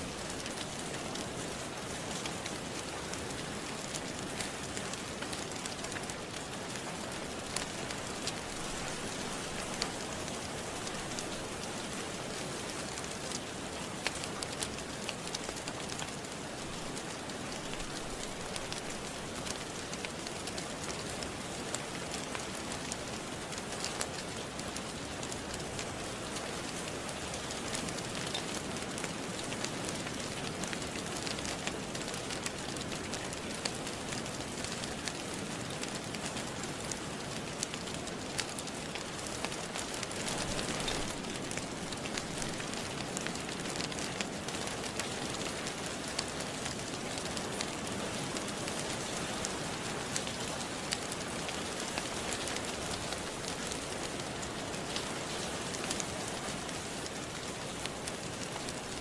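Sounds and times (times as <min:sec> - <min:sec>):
steady rain: 0:00.0 - 0:59.0
wood fire crackling: 0:00.1 - 0:59.0.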